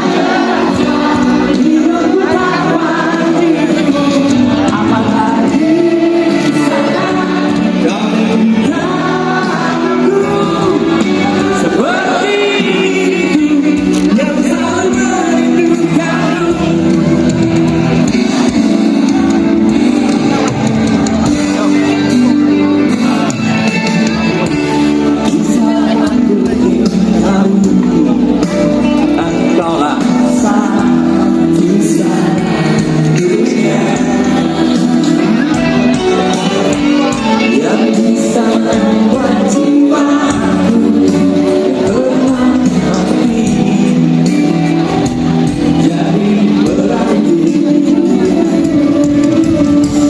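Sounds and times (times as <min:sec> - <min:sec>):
band accompaniment: 0:00.0 - 0:50.0
electric guitar: 0:00.0 - 0:50.0
person singing: 0:00.0 - 0:50.0.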